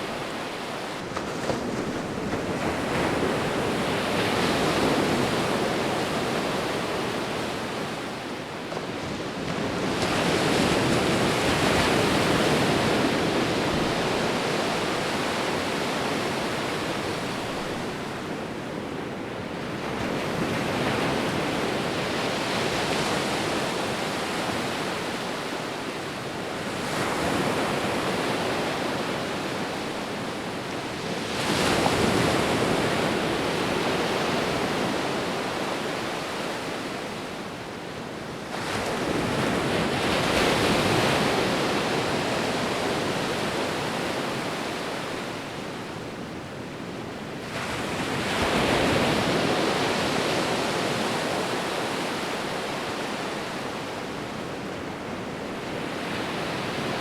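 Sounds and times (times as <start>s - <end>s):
sea waves rolling in: 0.0s - 57.0s.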